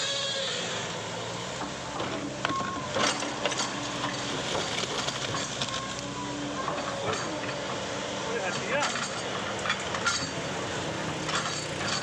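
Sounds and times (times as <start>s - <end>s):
excavator diesel engine running: 0.2s - 12.0s.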